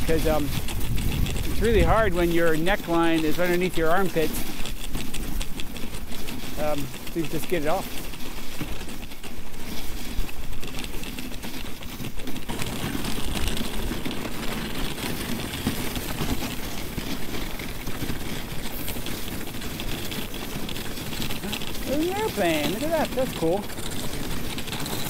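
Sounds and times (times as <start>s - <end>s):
sled rattling: 0.0s - 25.0s
sled runners scraping on ice: 0.0s - 25.0s.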